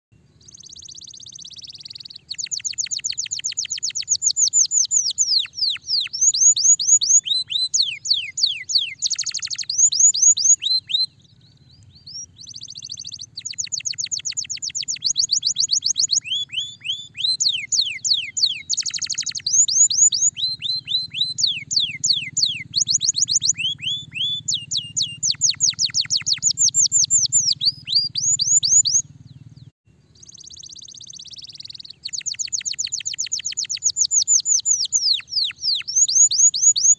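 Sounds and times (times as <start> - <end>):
canary singing fast trills: 0.2 - 36.9.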